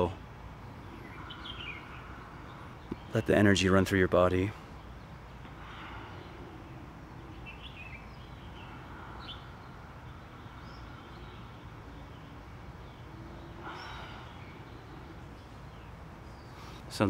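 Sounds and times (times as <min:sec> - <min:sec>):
faint bird chirps: 0:00.0 - 0:17.0
low background rumble: 0:00.0 - 0:17.0.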